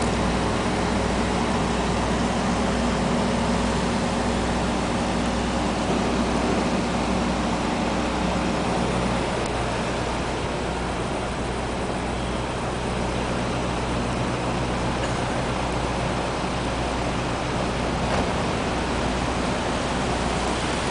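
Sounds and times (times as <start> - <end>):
idling vehicle engines humming: 0.0 - 20.9
street noise hiss: 0.0 - 20.9.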